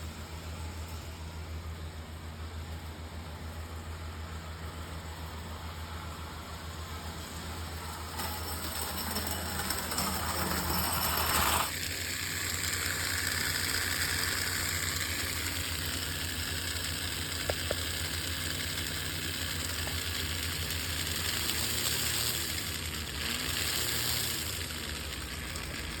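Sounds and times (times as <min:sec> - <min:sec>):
model train humming and rattling: 0:00.0 - 0:26.0.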